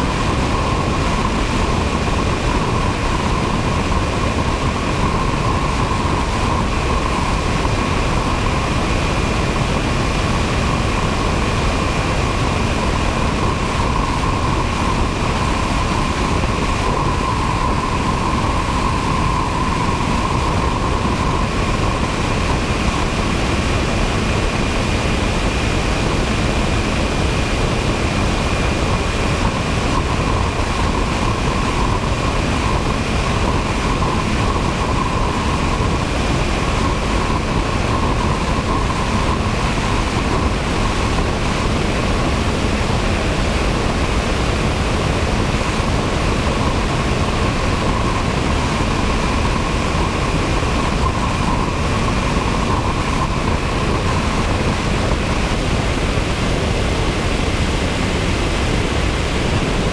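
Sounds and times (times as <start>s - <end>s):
motor whine: 0.0s - 59.9s
wind rushing over camera: 0.0s - 59.9s.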